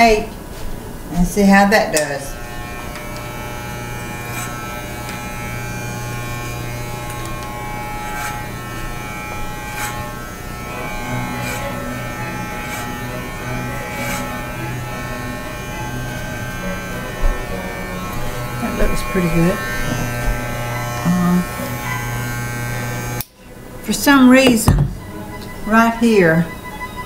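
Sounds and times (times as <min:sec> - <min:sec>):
electric hair clippers buzzing: 0:01.6 - 0:23.4, 0:24.1 - 0:25.0.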